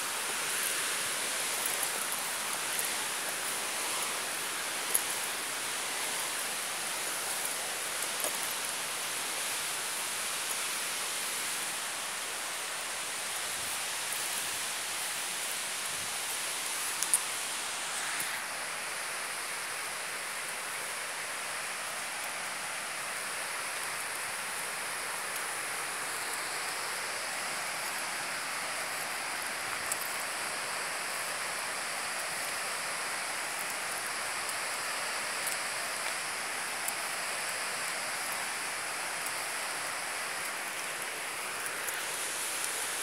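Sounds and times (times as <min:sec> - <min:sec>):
rushing hiss of outdoor ambience: 0:00.0 - 0:43.0.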